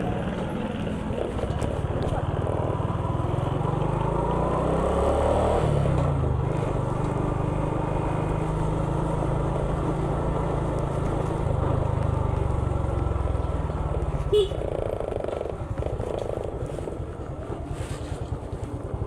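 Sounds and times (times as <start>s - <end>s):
vehicle engine humming: 0.0s - 4.2s, 4.8s - 19.0s
road and wind noise: 0.0s - 19.0s.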